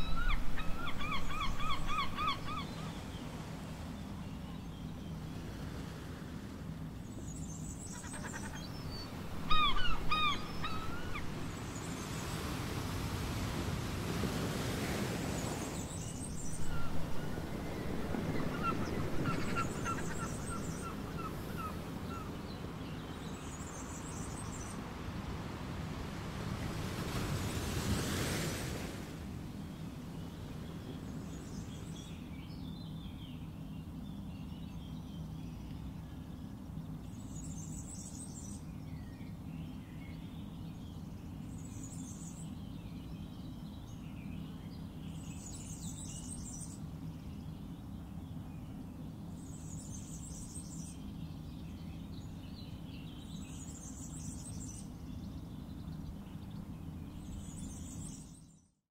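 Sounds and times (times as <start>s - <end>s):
birds singing: 0.0s - 5.3s, 7.0s - 12.3s, 15.4s - 24.8s, 29.5s - 58.7s.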